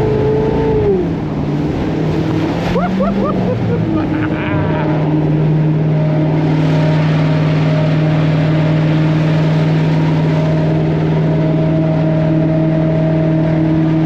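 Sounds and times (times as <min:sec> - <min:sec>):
jet boat engine running: 0:00.0 - 0:14.0.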